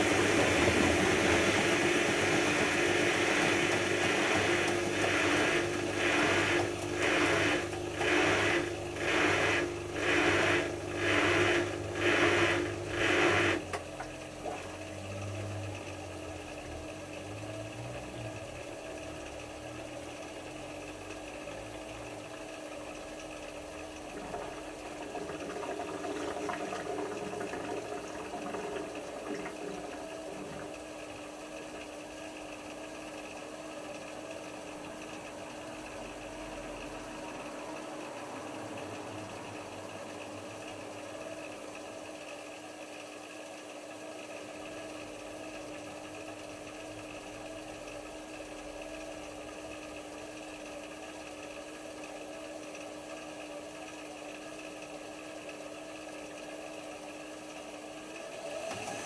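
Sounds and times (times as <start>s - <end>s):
washing machine humming: 0.0s - 59.0s
washing machine surging: 0.0s - 59.0s.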